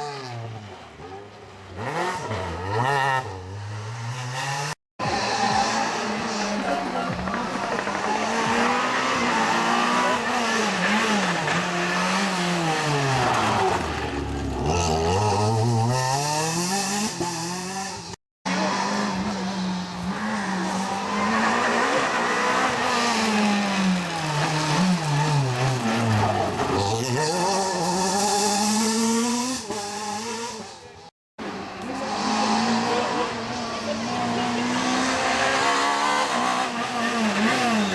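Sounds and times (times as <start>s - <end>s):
rally car engine revving: 0.0s - 37.9s.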